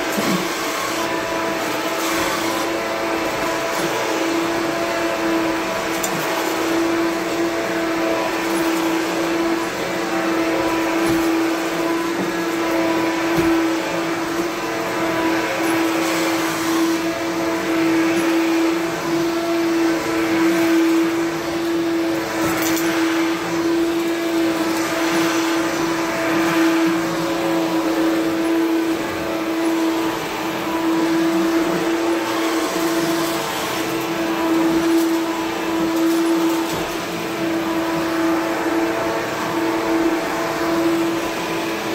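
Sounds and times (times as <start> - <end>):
vacuum cleaner motor running: 0.0 - 41.9
vacuum rushing hiss over floor: 0.0 - 41.9.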